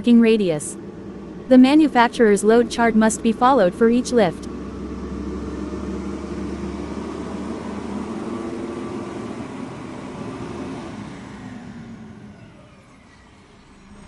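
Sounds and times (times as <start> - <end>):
heavy vehicle engine droning: 0.0 - 14.0.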